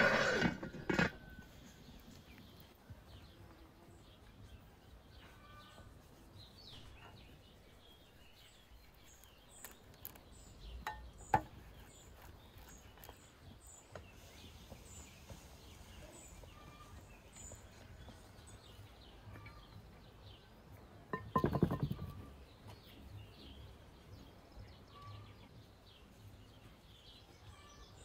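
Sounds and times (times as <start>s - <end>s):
small birds chirping: 0.8s - 28.0s.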